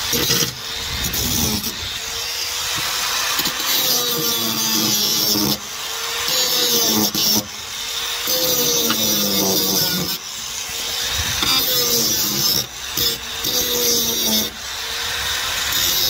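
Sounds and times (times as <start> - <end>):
angle grinder grinding metal: 0.0 - 16.0.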